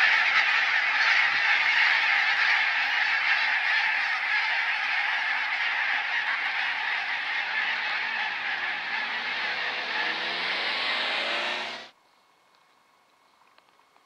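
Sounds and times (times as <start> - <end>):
flock of geese honking: 0.0 - 11.9.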